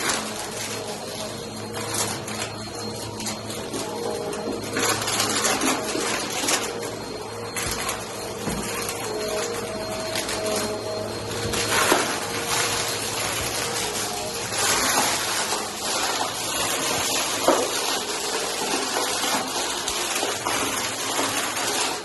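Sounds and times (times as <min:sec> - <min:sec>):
vacuum cleaner on carpet: 0:00.0 - 0:22.0.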